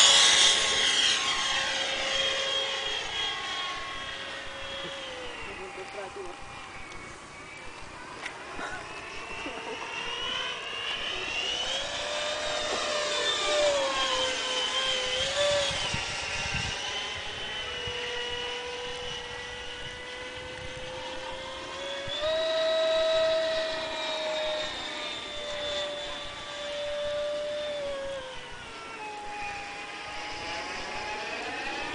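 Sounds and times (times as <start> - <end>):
model jet fan whining: 0.0 - 31.9.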